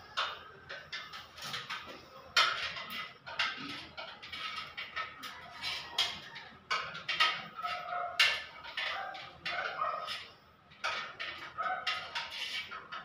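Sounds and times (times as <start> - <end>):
wires scraping and squeaking: 0.0 - 13.0.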